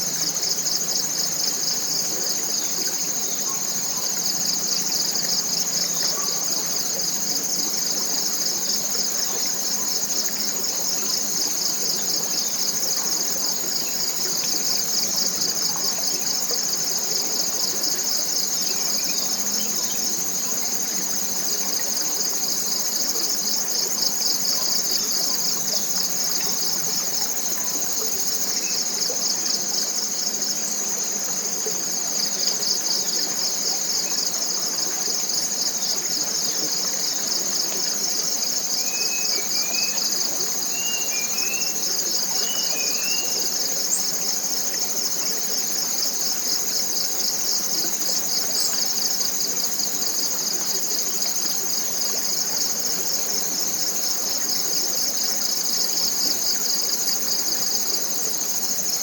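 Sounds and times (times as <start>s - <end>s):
insects buzzing trill: 0.0s - 59.0s.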